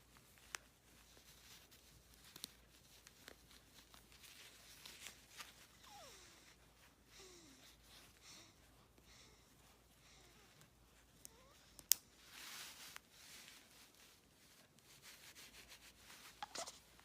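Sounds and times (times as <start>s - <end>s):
soft rustles: 0.0s - 17.0s.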